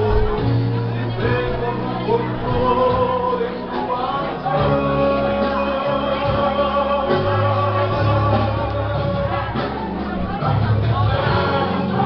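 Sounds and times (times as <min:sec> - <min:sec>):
bass line: 0:00.0 - 0:12.0
gospel singing: 0:00.0 - 0:12.0.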